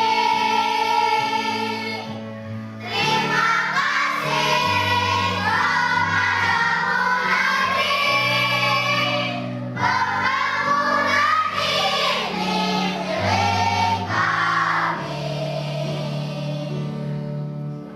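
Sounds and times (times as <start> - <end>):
children singing: 0.0 - 2.1, 2.8 - 17.1
instrumental accompaniment: 0.0 - 17.9.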